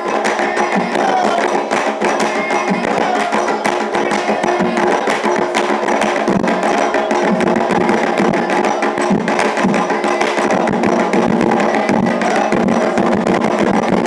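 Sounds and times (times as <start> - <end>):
bright percussion: 0.0 - 14.0
hand drums in fast rhythm: 0.0 - 14.0.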